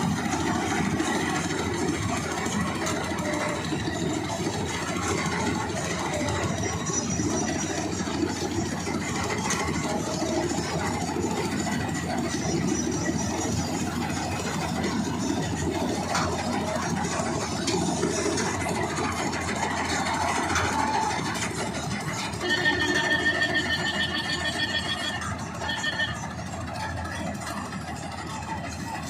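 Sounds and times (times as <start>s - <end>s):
tractor and combine harvester running: 0.0s - 29.0s.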